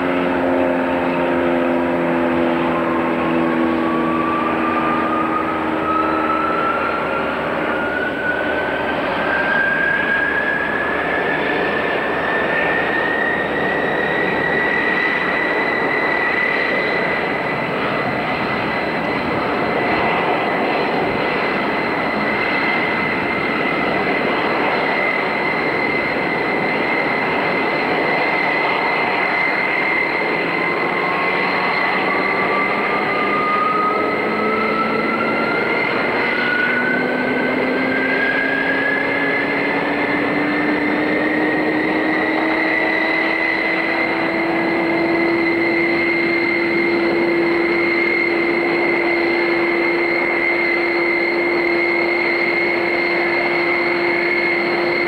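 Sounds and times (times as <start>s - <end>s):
high turbine whine: 0.0s - 55.0s
low rising tones: 0.0s - 55.0s
second rising whine: 0.0s - 55.0s
turboprop engines running: 0.0s - 55.0s.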